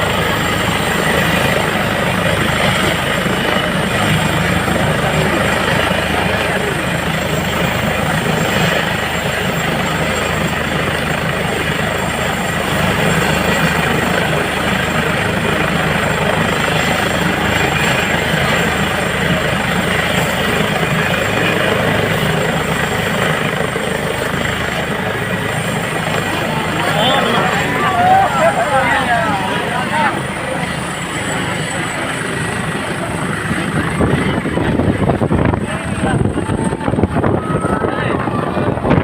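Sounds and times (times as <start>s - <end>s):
helicopter rotor and turbine: 0.0s - 39.0s.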